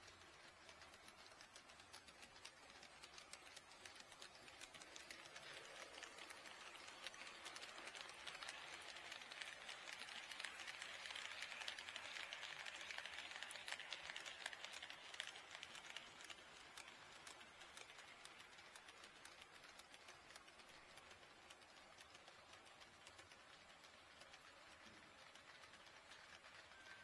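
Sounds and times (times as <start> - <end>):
model train rolling on track: 0.0 - 27.0.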